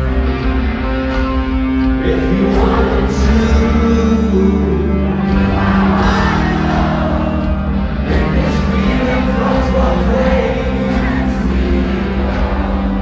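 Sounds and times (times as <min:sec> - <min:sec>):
rock band playing live: 0:00.0 - 0:13.0
person singing: 0:02.0 - 0:13.0.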